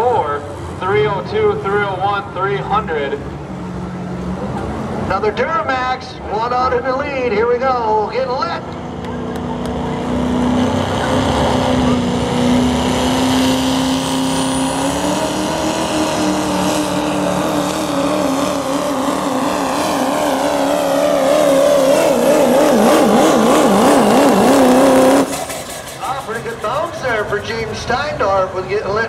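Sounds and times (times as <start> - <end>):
diesel truck engine full throttle: 0.0 - 29.0.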